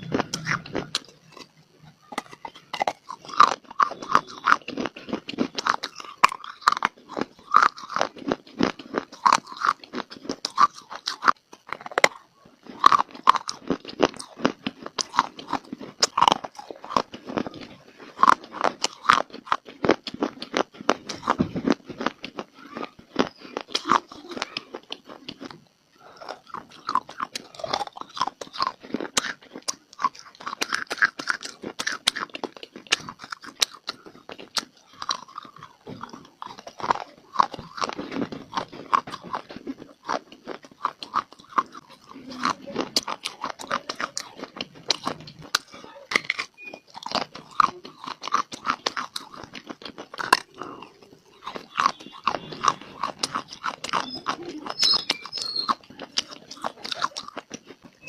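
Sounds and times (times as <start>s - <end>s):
crunching and chewing dry clay: 0.0s - 58.0s.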